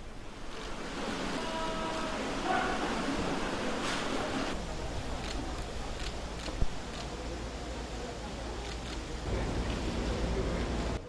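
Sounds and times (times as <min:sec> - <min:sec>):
low rumble of large hall: 0:00.0 - 0:11.0.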